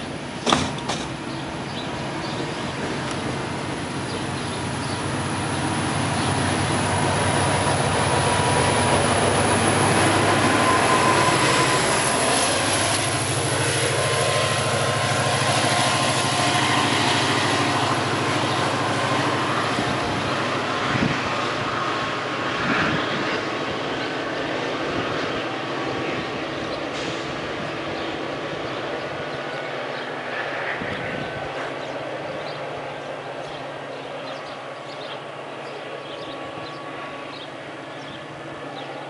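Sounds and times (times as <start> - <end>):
diesel locomotive engine drone: 0.0 - 39.0
train wheels on rails: 0.0 - 39.0.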